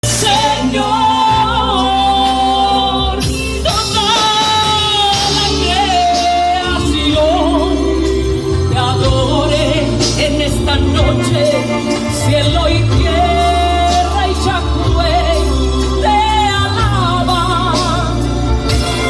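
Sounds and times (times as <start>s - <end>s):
band accompaniment: 0.0s - 19.0s
solo singer's voice: 0.0s - 19.0s.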